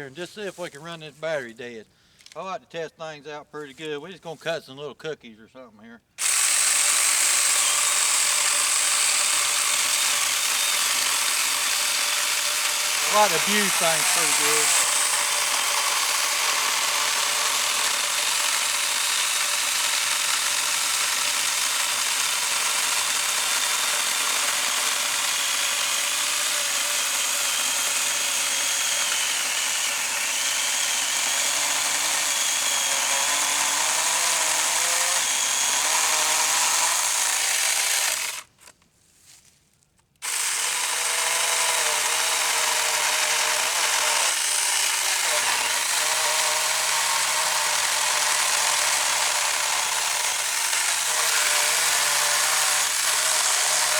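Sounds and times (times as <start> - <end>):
chainsaw cutting log: 6.2 - 38.7, 40.2 - 53.9.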